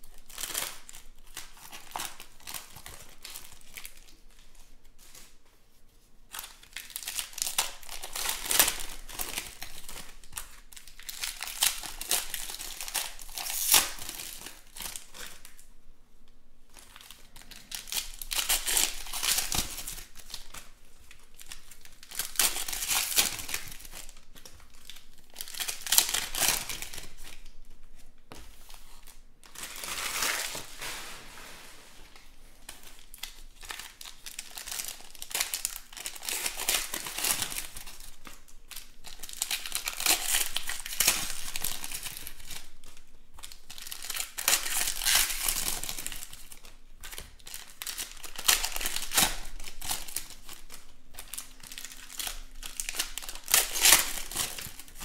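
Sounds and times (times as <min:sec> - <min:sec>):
foil wrappers torn and crinkled: 0:00.0 - 0:04.4, 0:06.3 - 0:15.6, 0:16.8 - 0:27.6, 0:32.6 - 0:55.0.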